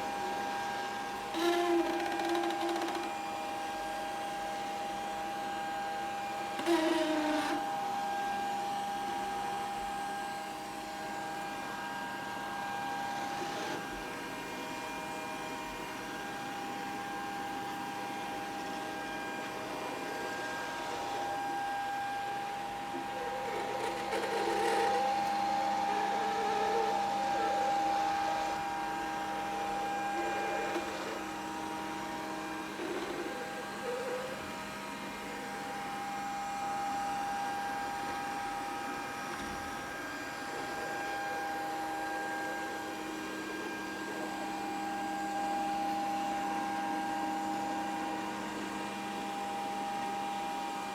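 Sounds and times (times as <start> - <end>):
robot vacuum motor whine: 0.0 - 50.9.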